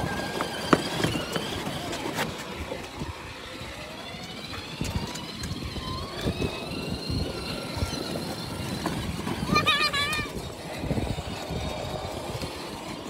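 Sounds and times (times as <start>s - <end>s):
electric toy motors whining: 0.0s - 13.0s
plastic wheels rumbling on concrete: 0.0s - 13.0s.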